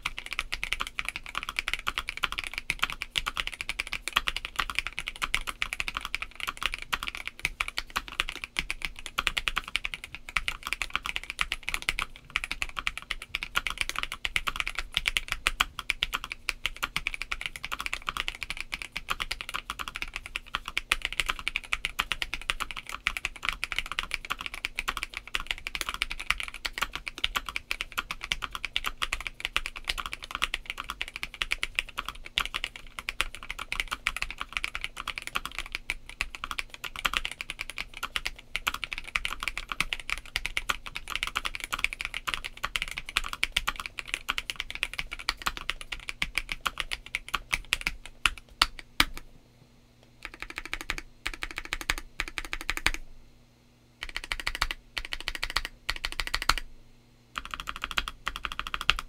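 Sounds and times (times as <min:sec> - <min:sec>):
fast mechanical keyboard typing: 0:00.0 - 0:49.2, 0:50.2 - 0:53.0, 0:54.0 - 0:56.7, 0:57.4 - 0:59.0.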